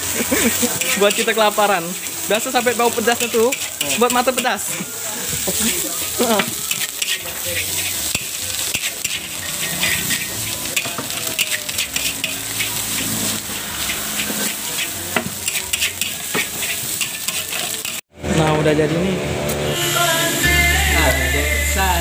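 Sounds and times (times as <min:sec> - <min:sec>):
metal spatula scraping wok: 0:00.0 - 0:18.0
rice sizzling in a wok: 0:00.0 - 0:18.1, 0:19.6 - 0:22.0.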